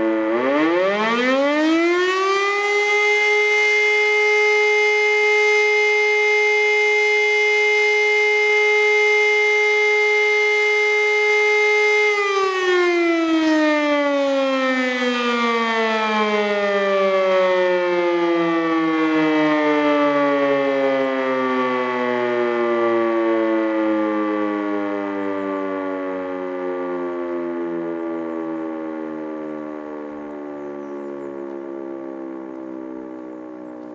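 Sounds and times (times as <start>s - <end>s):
siren winding down: 0.0s - 33.9s.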